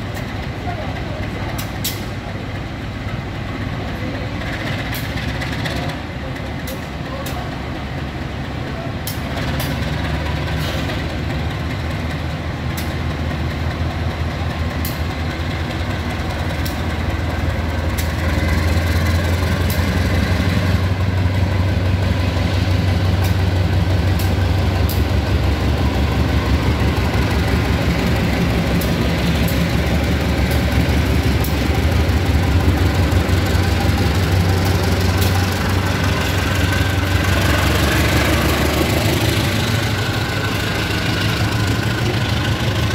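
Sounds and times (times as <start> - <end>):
locomotive engine droning: 0.0 - 42.9.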